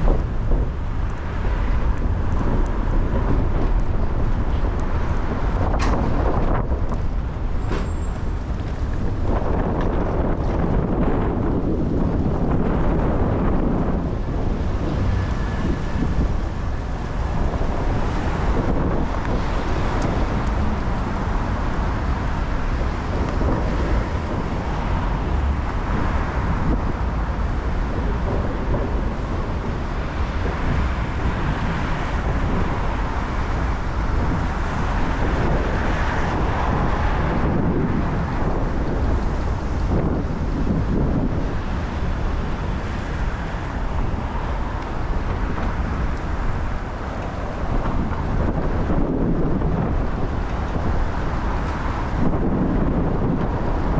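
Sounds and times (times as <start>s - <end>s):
low road rumble: 0.0s - 53.9s
wind buffeting microphone: 0.0s - 53.9s.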